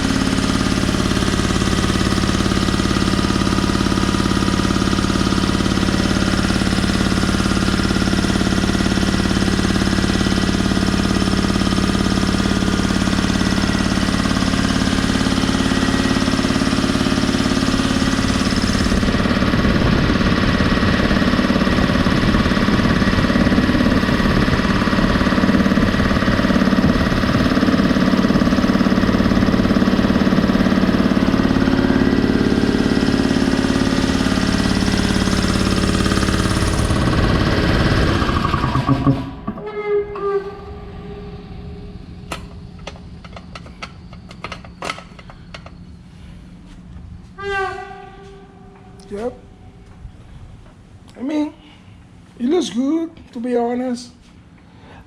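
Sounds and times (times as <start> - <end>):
air compressor humming: 0.0 - 52.4.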